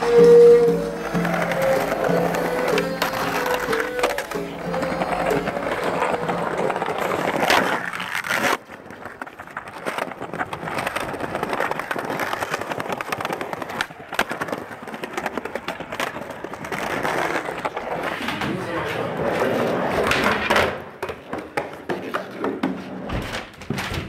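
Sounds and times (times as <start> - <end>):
skateboard clack: 0.0 - 24.0
skateboard wheels rolling on concrete: 0.0 - 24.0.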